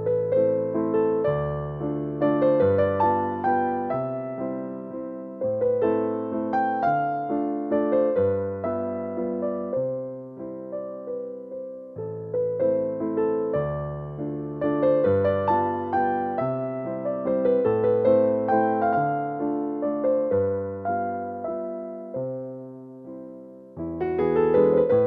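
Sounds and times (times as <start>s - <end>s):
gentle keyboard music: 0.0s - 25.0s.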